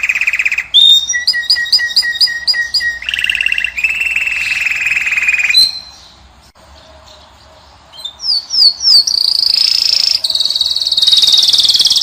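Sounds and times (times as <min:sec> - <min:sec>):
finch song trills: 0:00.0 - 0:12.0.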